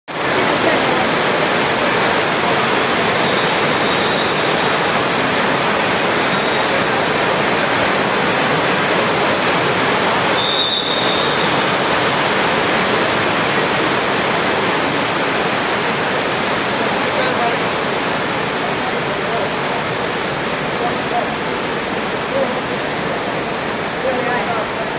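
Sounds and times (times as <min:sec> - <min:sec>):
crowd hubbub: 0:00.1 - 0:24.9.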